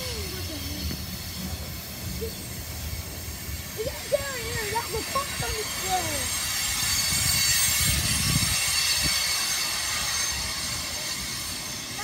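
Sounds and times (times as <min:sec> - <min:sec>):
high-pitched wheel ringing: 0:00.0 - 0:12.0
train wheels rumbling on rails: 0:00.0 - 0:12.0.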